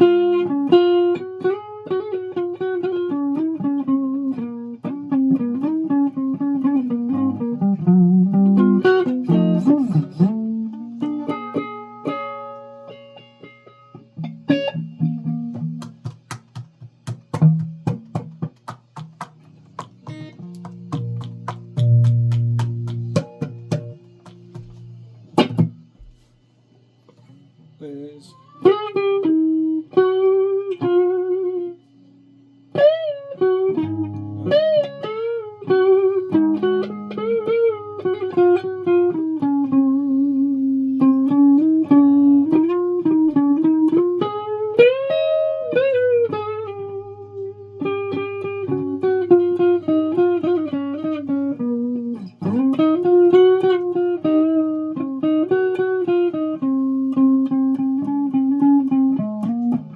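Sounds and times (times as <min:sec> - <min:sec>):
guitar slow melody with bends: 0:00.0 - 0:26.3, 0:27.0 - 0:59.9.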